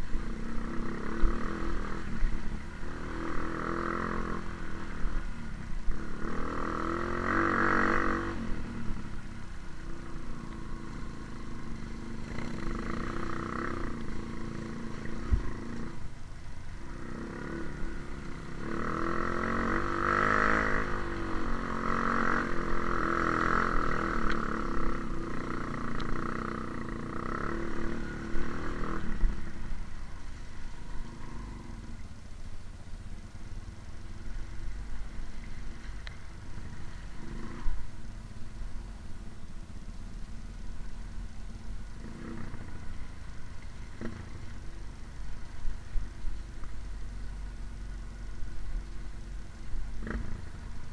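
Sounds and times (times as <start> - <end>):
motorcycle engine revving: 0.0 - 32.1, 33.0 - 39.2, 39.9 - 50.9.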